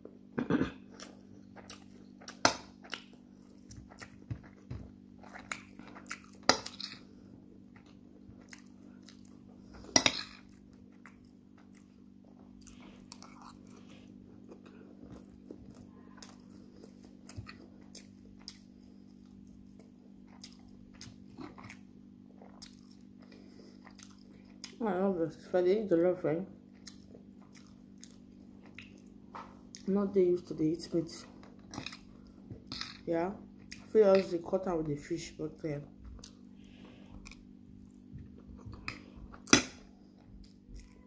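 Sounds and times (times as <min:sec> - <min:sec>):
chewing: 0:01.0 - 0:24.8, 0:26.6 - 0:29.9, 0:31.2 - 0:33.0, 0:33.6 - 0:34.3, 0:36.0 - 0:41.0.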